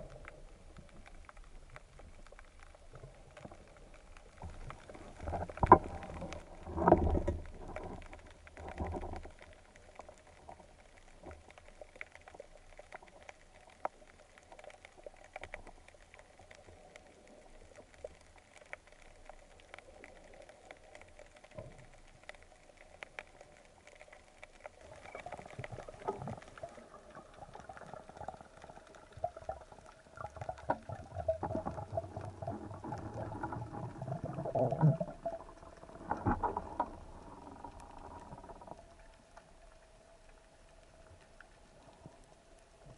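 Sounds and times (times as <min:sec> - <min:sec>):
faint underwater clicks: 0:00.0 - 0:42.9
underwater splashing and bubbling: 0:00.0 - 0:42.9.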